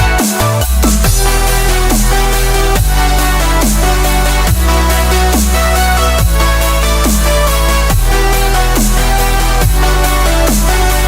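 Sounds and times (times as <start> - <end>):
dubstep music with heavy bass: 0.0 - 11.0.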